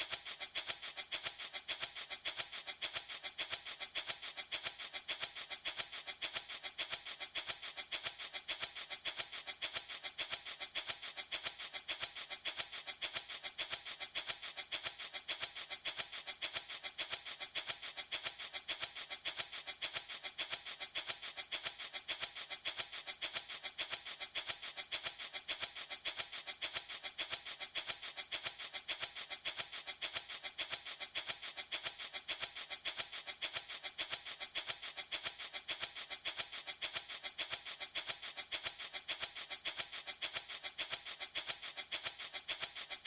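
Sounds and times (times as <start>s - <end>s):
wooden baby rattle shaken: 0.0s - 43.0s.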